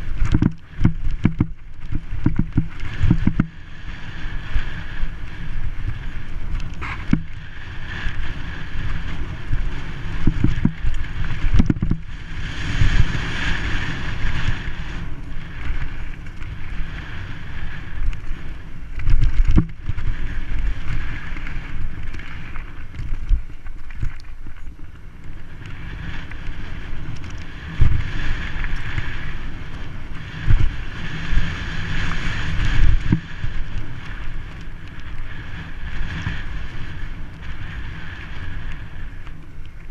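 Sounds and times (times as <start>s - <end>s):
bike tyres rumbling and rattling: 0.0s - 39.9s
wind rushing over microphone: 0.0s - 39.9s.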